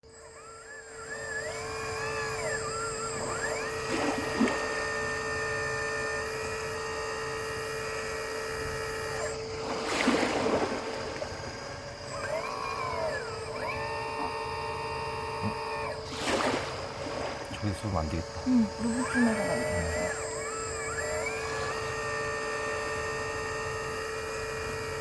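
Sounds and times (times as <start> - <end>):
hydraulic pump whining: 0.0 - 25.0.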